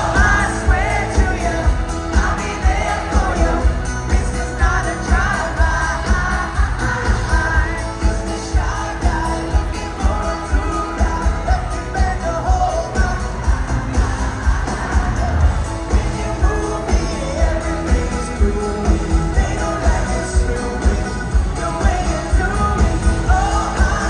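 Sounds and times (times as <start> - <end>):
live pop-rock band playing: 0.0 - 24.0
man singing: 0.0 - 24.0
steady drum beat: 0.0 - 24.0.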